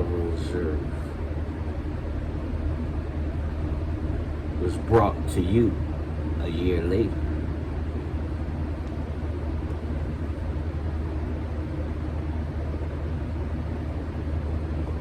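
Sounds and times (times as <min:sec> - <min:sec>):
steady low rumble with hiss: 0:00.0 - 0:15.0.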